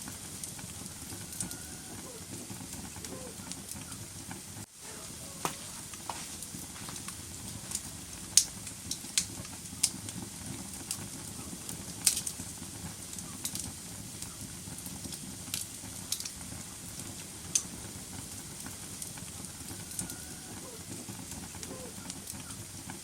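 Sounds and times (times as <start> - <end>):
flames rushing in fireplace: 0.0 - 23.0
wood fire crackles and pops: 0.0 - 23.0.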